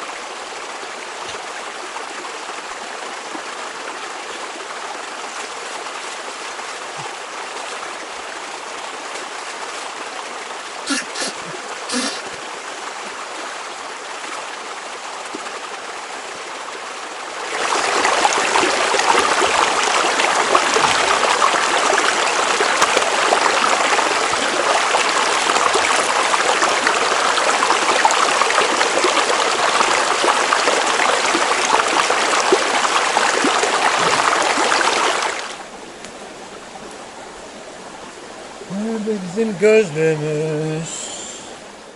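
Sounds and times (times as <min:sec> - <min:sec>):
river rushing over stones: 0:00.0 - 0:41.9.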